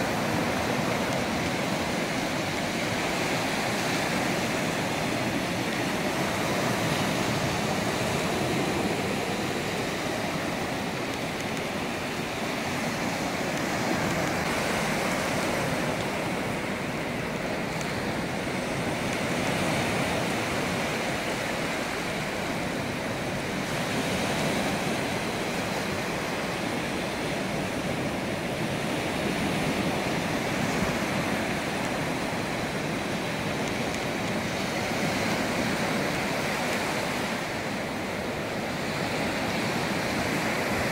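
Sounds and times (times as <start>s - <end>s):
small waves breaking on sand: 0.0s - 40.9s.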